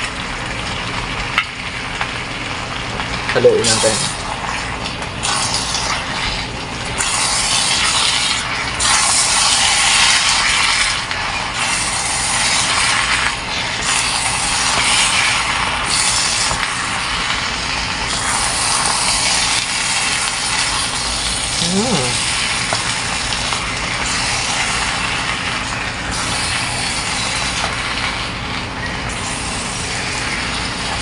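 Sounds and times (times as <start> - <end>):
food sizzling in pan: 0.0 - 31.0.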